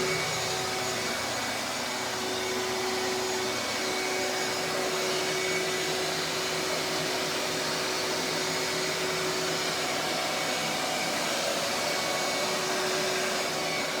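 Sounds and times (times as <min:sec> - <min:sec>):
small motor whine: 0:00.0 - 0:14.0.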